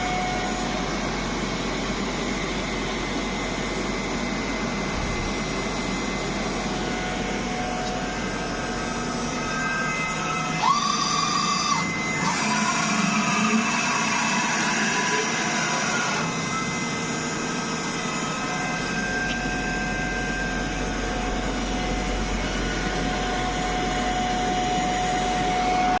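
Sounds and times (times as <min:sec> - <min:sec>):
high machine whine: 0:00.0 - 0:26.0
milling machine humming: 0:00.0 - 0:26.0.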